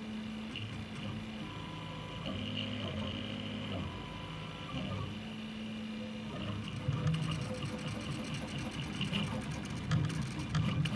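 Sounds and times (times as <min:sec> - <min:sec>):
cooling fans whirring: 0:00.0 - 0:10.9
stepper motors whining: 0:00.5 - 0:10.9.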